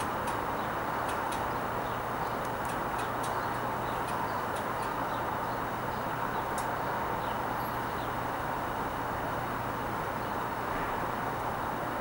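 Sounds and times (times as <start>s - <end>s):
distant city traffic: 0.0s - 12.0s.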